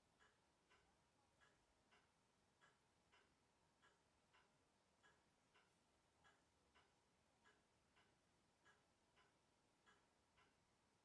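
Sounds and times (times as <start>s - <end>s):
watch ticking: 0.0s - 11.0s.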